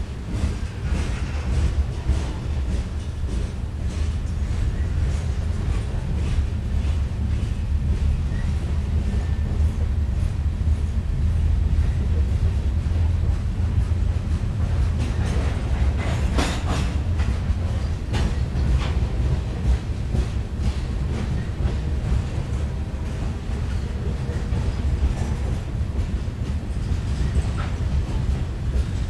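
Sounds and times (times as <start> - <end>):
train clicks and knocks: 0.0 - 29.0
wheels rumbling on rail: 0.0 - 29.0.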